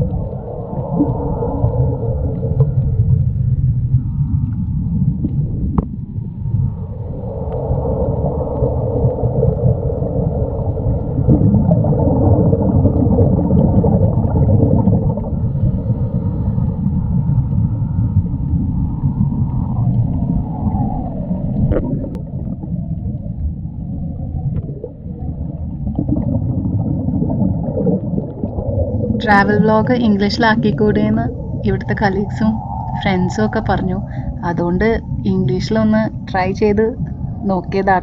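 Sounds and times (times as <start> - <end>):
air bubbles: 0.0 - 38.0
gurgling water: 0.0 - 38.0
low underwater rumble: 0.0 - 38.0.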